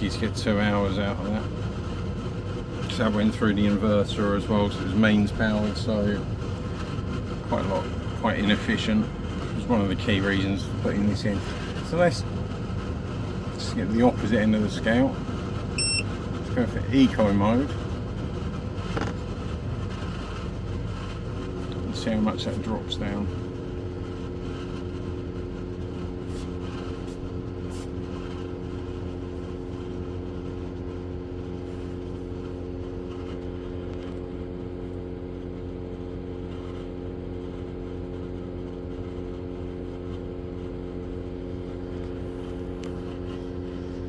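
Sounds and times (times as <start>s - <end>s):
air conditioner humming: 0.0s - 44.0s.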